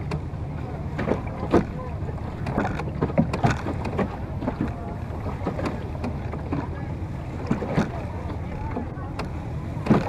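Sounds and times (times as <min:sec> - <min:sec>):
water splashing against boat hull: 0:00.0 - 0:10.0.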